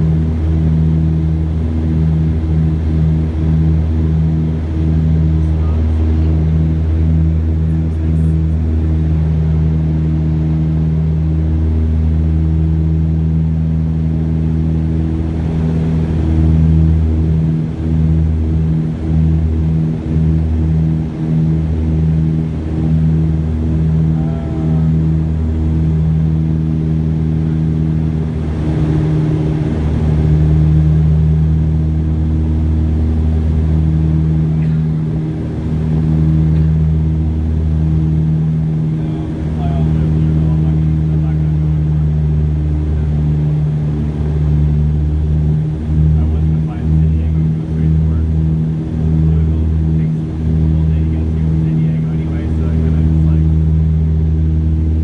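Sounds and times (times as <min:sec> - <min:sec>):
aircraft engines droning in cabin: 0:00.0 - 0:55.0.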